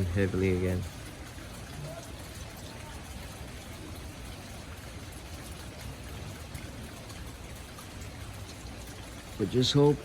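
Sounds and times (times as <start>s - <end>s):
light rain patter: 0.0s - 10.0s
water dripping: 0.0s - 10.0s.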